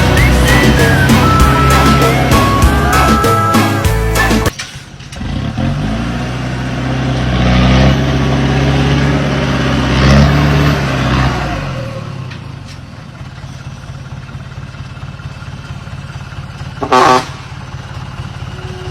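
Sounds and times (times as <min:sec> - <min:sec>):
heavy vehicle engine revving: 0:00.0 - 0:18.9.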